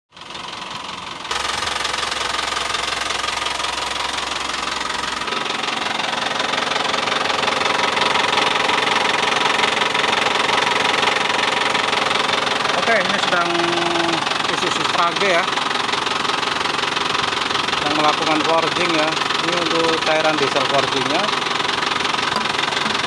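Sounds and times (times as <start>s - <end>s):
diesel engine clattering: 0.1s - 23.0s.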